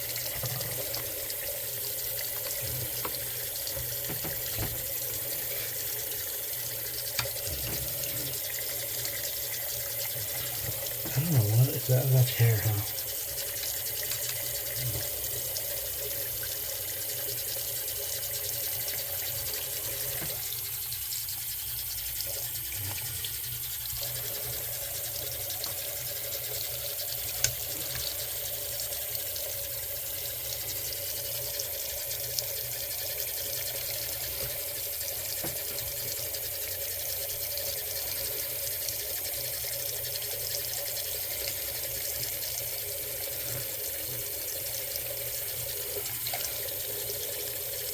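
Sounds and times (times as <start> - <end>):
faucet running into sink: 0.0 - 47.9.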